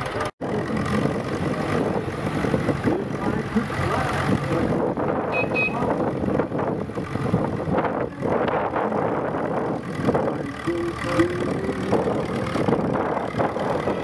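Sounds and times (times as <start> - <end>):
tractor engine running at low speed: 0.0 - 14.0.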